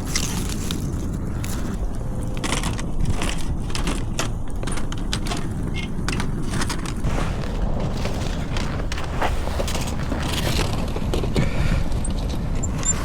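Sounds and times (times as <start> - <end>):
handling clicks and crunches: 0.0 - 13.0
wind buffeting microphone: 0.0 - 13.0.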